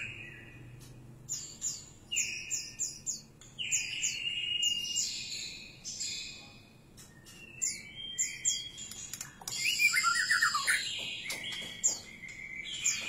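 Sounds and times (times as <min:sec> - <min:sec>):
bird singing chirps and whistles: 0:00.0 - 0:13.0.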